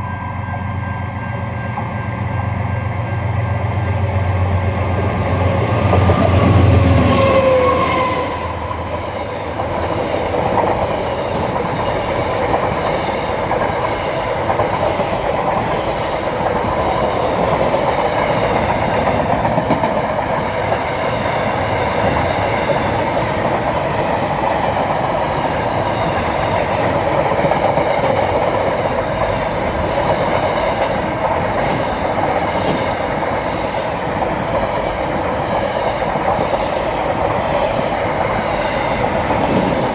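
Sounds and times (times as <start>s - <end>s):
train wheels rumbling and clacking: 0.0s - 39.9s.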